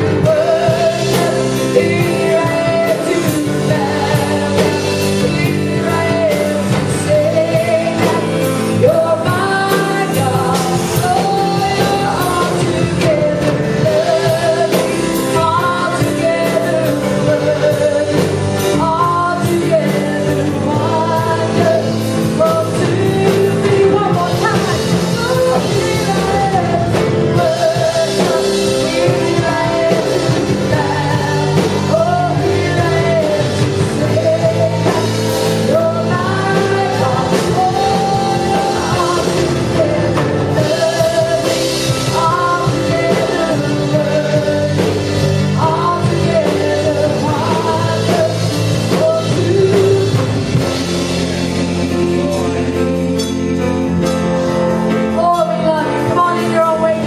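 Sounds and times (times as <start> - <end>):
band singing a worship song: 0.0 - 57.0
guitar chords: 0.0 - 57.0
piano chords: 0.0 - 57.0.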